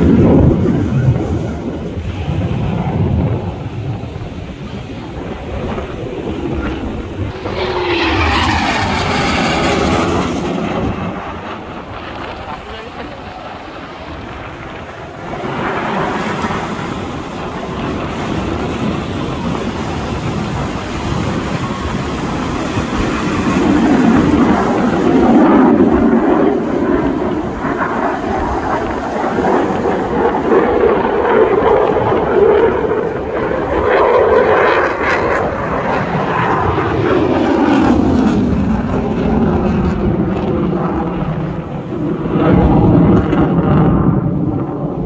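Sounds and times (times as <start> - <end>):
fighter jet engine roar: 0.0 - 45.0.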